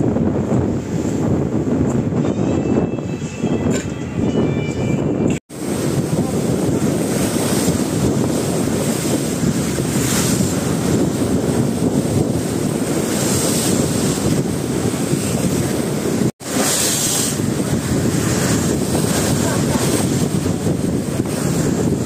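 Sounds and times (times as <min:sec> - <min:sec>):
sea waves along hull: 0:00.0 - 0:02.6, 0:05.4 - 0:22.0
wind buffeting microphone: 0:00.0 - 0:22.0.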